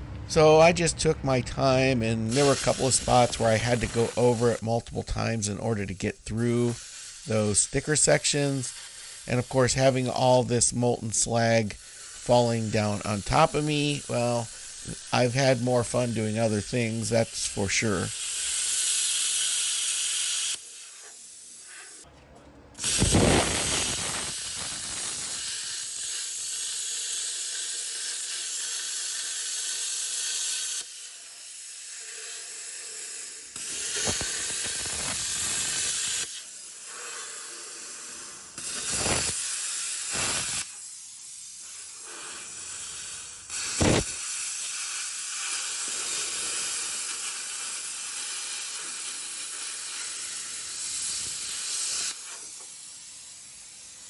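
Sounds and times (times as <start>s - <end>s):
plasma cutter cutting steel: 1.6s - 22.0s, 22.8s - 54.0s.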